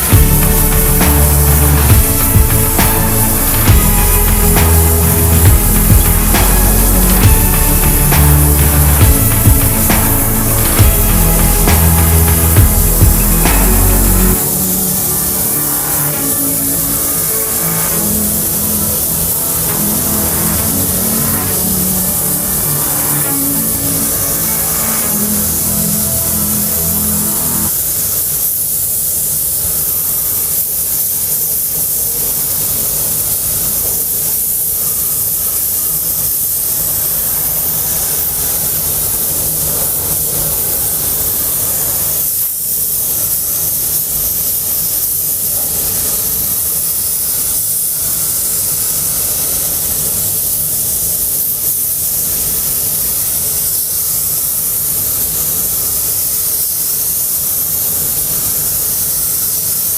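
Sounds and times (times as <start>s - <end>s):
paint spray gun hissing: 0.0s - 59.9s.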